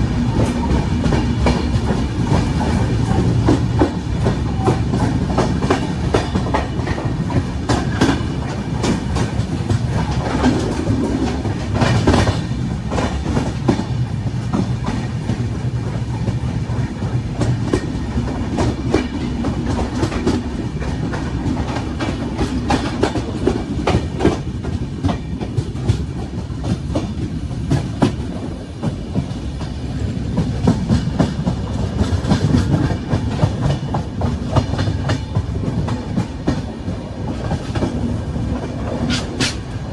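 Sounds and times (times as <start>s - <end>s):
train rumble: 0.0s - 39.9s
wheels clacking over rail joints: 0.2s - 39.9s.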